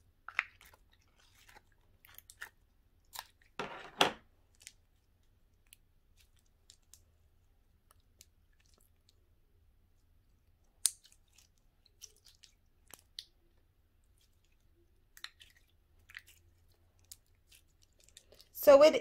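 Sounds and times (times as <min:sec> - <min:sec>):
slime squishing in hands: 0:00.0 - 0:03.6, 0:04.4 - 0:18.6.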